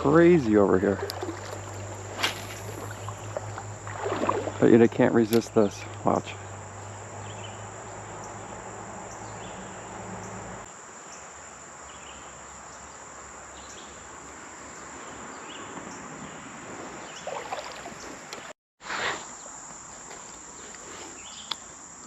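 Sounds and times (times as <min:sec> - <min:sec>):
insects buzzing and chirping: 0:00.0 - 0:22.0.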